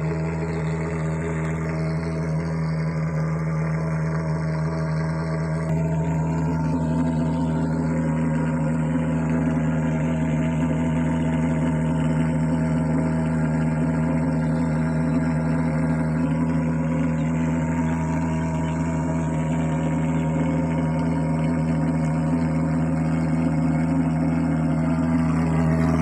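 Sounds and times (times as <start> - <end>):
fogging machine engine droning: 0.0 - 26.0.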